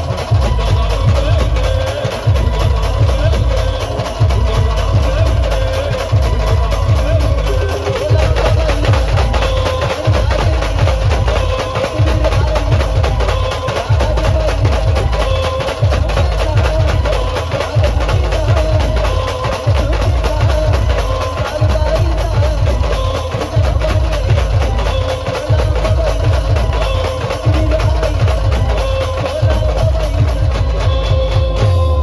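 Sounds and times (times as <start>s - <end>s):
loud driving drum beat: 0.0s - 32.0s.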